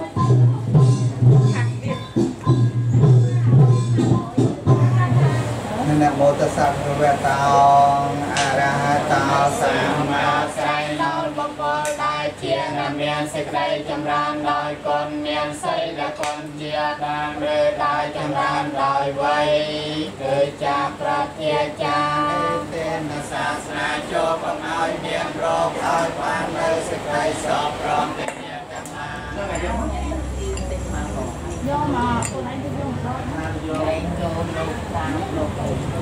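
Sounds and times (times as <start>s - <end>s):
group of voices singing: 0.0s - 32.5s.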